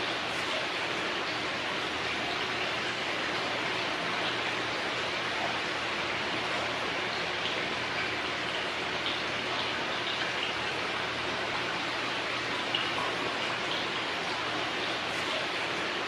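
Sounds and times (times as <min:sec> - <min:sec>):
faint water splashes: 0:00.0 - 0:16.0
flowing water rushing: 0:00.0 - 0:16.0.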